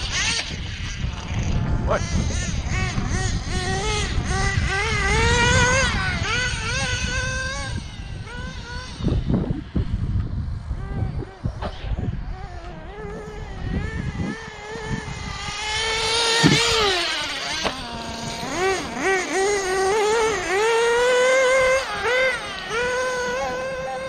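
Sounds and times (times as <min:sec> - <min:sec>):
small nitro engine revving: 0:00.0 - 0:24.0.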